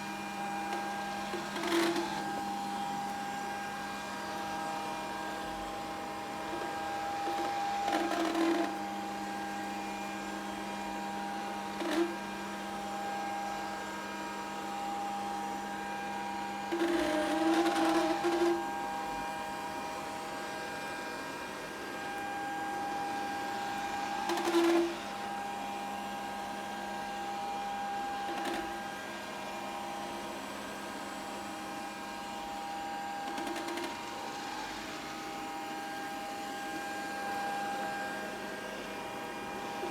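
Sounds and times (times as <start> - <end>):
robot vacuum motor hum: 0.1 - 13.9, 14.6 - 21.0, 21.7 - 39.9.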